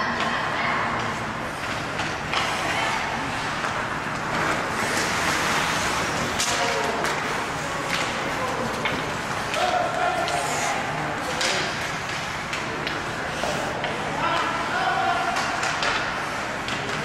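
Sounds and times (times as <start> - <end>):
crowd noise: 0.0 - 17.0
skating on ice: 0.9 - 17.0.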